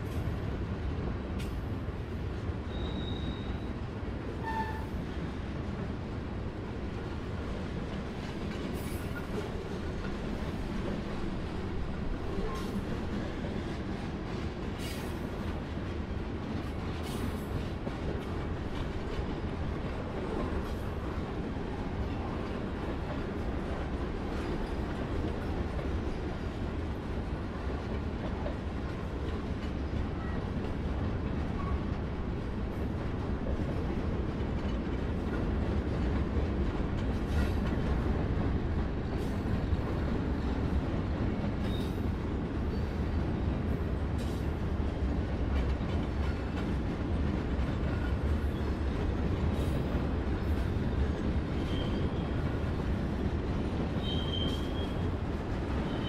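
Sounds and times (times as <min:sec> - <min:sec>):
freight wheels rumbling on rail: 0:00.0 - 0:56.0.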